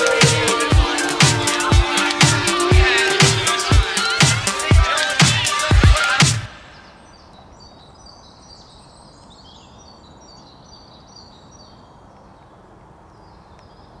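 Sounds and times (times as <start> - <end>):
outdoor background hiss: 0.0 - 14.0
songbirds chirping and trilling: 0.0 - 14.0.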